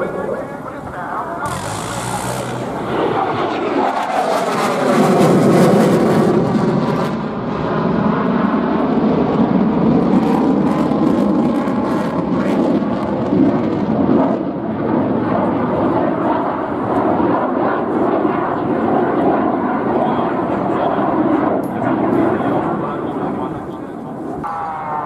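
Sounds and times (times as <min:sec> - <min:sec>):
jet engine passing: 0:00.0 - 0:25.0.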